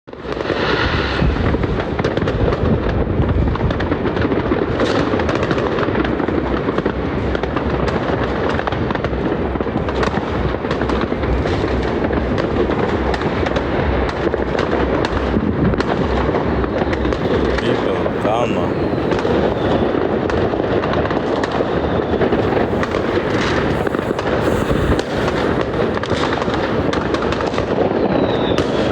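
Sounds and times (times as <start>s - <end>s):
fireworks and firecrackers barrage: 0.1s - 28.9s.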